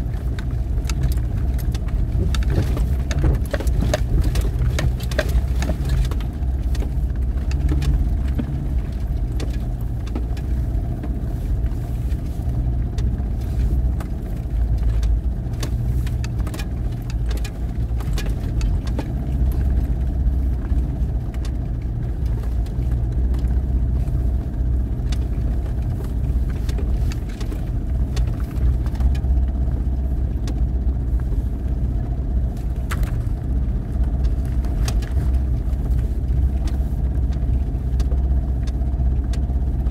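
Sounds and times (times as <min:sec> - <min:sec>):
vehicle engine low rumble: 0:00.0 - 0:39.9.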